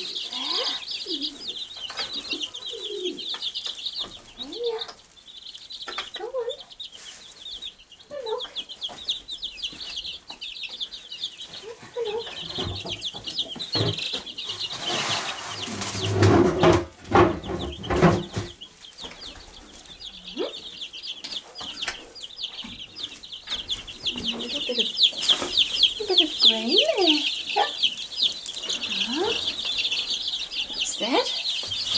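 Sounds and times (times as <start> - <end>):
rustling and knocks: 0.0 - 7.8, 8.4 - 31.9
chicks peeping: 0.0 - 31.9.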